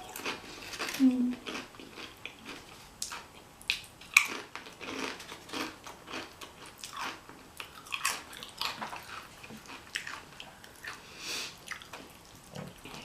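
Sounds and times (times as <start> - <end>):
close chewing mouth noises: 0.0 - 13.0.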